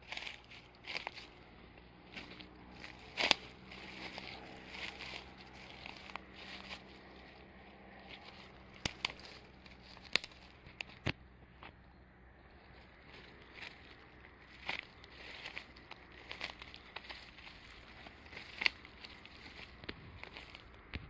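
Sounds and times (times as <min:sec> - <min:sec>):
footsteps on leaves and gravel: 0:00.0 - 0:11.1, 0:12.5 - 0:20.9
twigs snapping underfoot: 0:00.0 - 0:11.7, 0:12.7 - 0:21.0.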